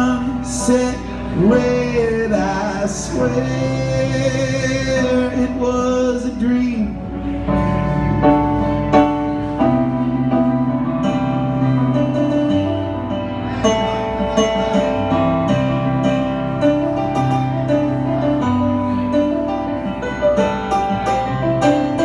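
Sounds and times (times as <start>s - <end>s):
keyboard chords: 0.0s - 22.0s
live band playing instrumental: 0.0s - 22.0s.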